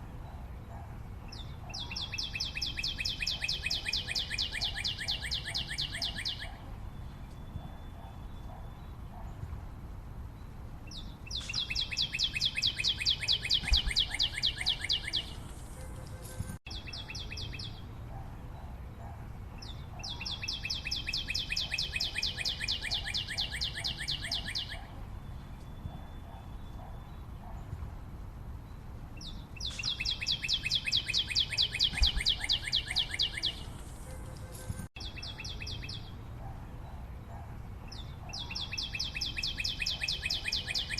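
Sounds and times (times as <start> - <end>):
bird singing rapid trills: 0.7 - 9.0, 10.4 - 18.0, 19.0 - 27.6, 28.7 - 36.3, 37.2 - 40.9.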